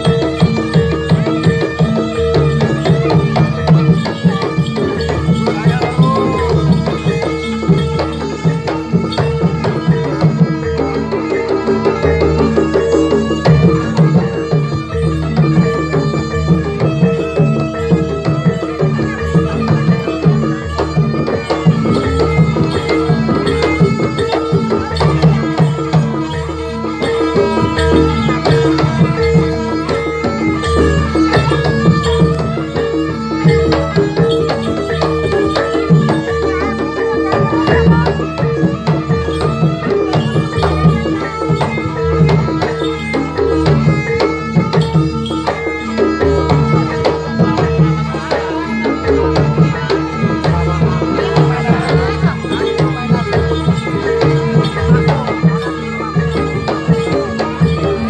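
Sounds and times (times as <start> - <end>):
gamelan ensemble playing: 0.0 - 58.0
hand drums steady rhythm: 0.0 - 58.0.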